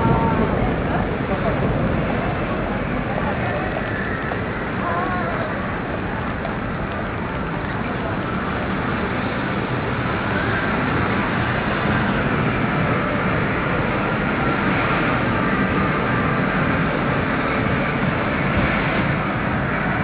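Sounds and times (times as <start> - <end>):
rain on a wet street: 0.0 - 20.0
urban background rumble: 0.0 - 20.0.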